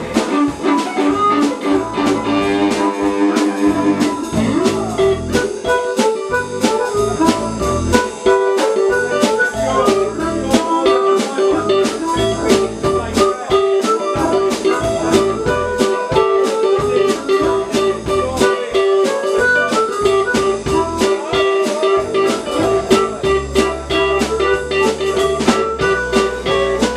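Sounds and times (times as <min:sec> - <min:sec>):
drums keeping a beat: 0:00.0 - 0:26.9
electric guitar: 0:00.0 - 0:26.9.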